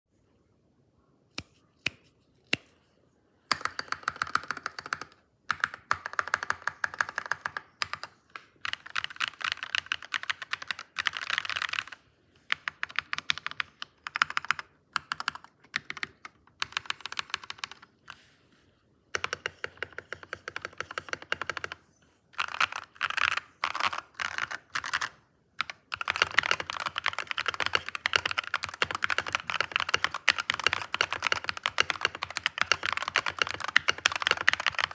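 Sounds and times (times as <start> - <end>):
typing on computer keyboard: 3.5 - 18.2, 19.1 - 21.8, 22.4 - 34.9.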